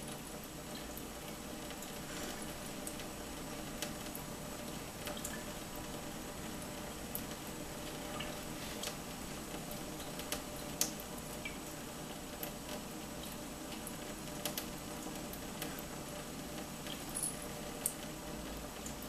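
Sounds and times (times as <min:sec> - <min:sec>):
light clicks and splashes: 0:00.0 - 0:05.6, 0:07.1 - 0:15.9, 0:16.5 - 0:19.0.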